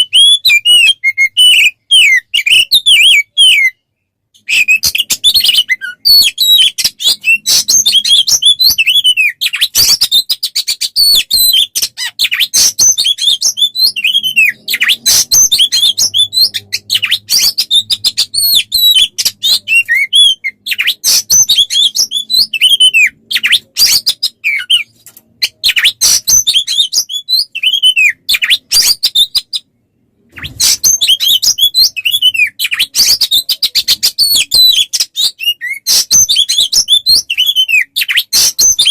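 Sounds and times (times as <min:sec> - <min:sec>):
songbird chirps and whistles: 0:00.0 - 0:38.9.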